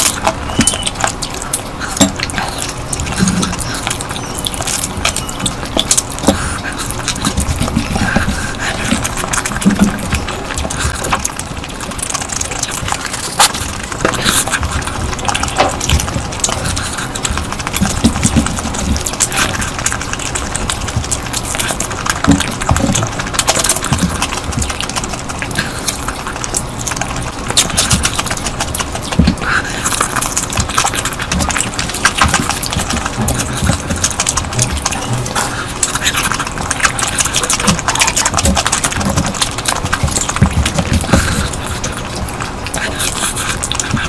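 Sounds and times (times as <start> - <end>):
mouth clicks and smacks: 0.0 - 44.0
person chewing noisily: 0.0 - 44.0.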